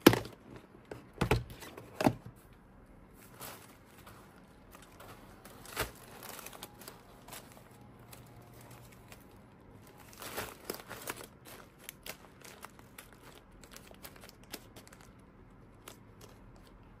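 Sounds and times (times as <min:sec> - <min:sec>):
sharp plastic crackles: 0:00.0 - 0:17.0
plastic bags crinkling: 0:03.1 - 0:17.0.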